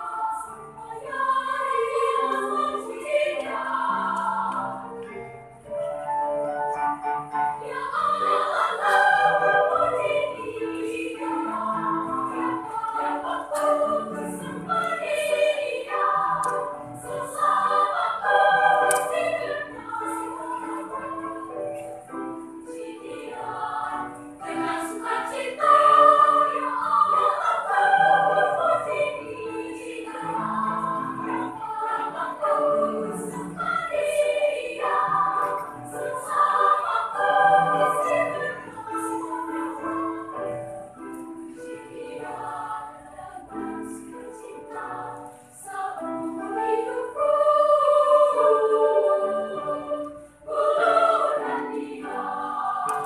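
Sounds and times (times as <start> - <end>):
children's choir singing: 0.0 - 53.0.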